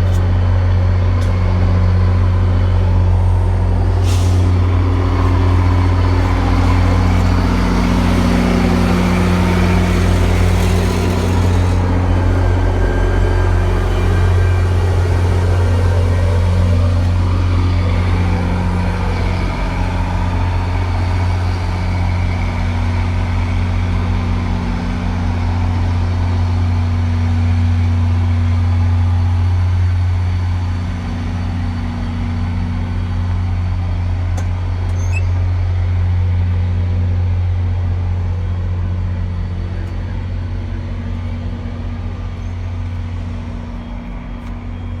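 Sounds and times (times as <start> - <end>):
diesel locomotive engine: 0.0 - 45.0
rolling train noise: 0.0 - 45.0.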